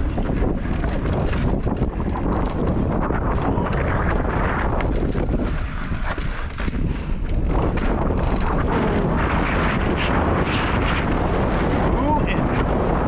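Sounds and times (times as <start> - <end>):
bike rattles and knocks: 0.0 - 12.9
bike tyre noise: 0.0 - 13.0
wind buffeting microphone: 0.0 - 13.0.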